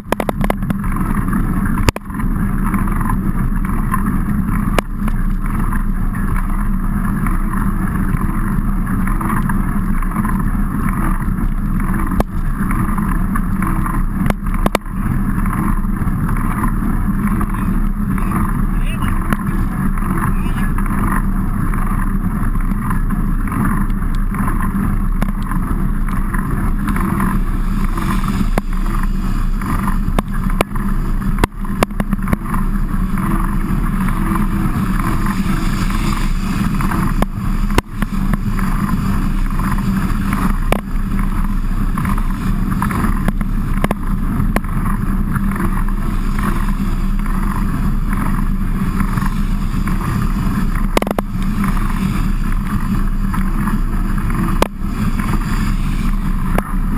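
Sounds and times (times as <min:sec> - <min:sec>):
mountain bike rolling: 0:00.0 - 0:56.9.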